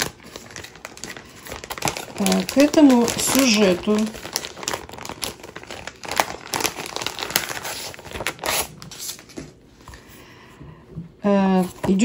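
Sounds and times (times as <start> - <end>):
packaging crinkling and rustling: 0.0 - 10.0, 11.5 - 12.0.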